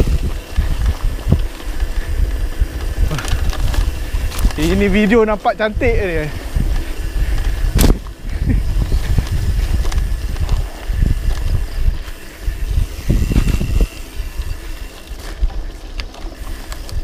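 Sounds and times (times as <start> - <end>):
bike knocks and rattles: 0.0 - 17.0
mountain bike rolling on dirt trail: 0.0 - 17.0
wind buffeting microphone: 0.0 - 17.0.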